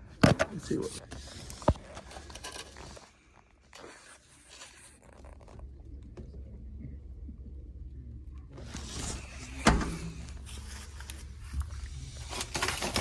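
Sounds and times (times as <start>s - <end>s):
faint rustling and scraping: 0.4s - 6.6s, 8.5s - 13.0s.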